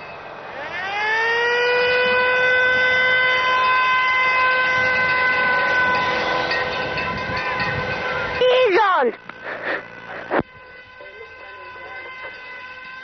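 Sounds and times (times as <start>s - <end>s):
toy siren wailing: 0.4s - 13.0s.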